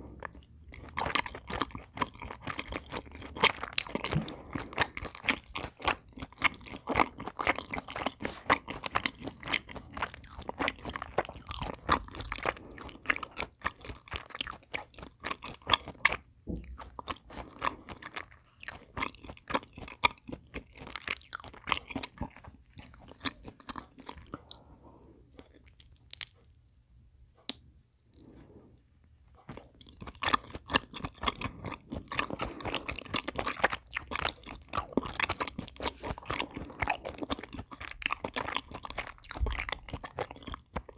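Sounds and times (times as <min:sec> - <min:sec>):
chewing and mouth sounds: 0:00.0 - 0:26.6, 0:29.3 - 0:40.9.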